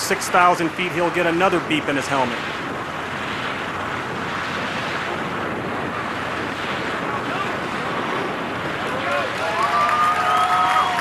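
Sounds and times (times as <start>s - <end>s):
wind rushing on microphone: 0.0s - 11.0s.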